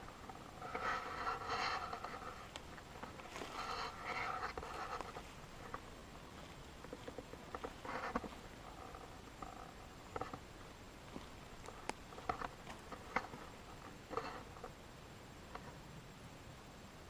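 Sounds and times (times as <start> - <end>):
faint steady hiss: 0.0 - 17.0
soft crackles and taps: 0.1 - 14.7.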